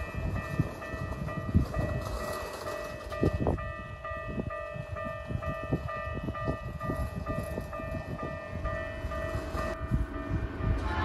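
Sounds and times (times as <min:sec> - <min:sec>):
level crossing warning bell: 0:00.0 - 0:10.9.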